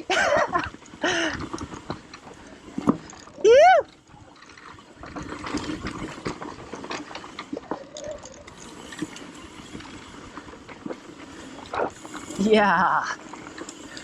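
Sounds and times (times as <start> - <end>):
bike clicks and rattles: 0.0 - 14.0
bike tyres crunching over dirt: 0.0 - 14.0.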